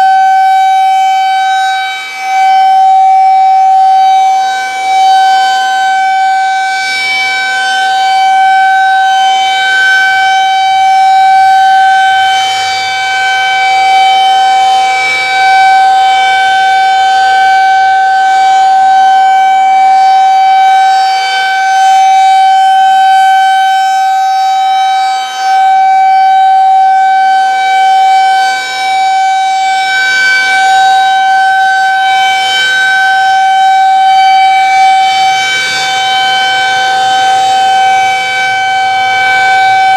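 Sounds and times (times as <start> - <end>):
rotating siren steady tone: 0.0 - 39.9.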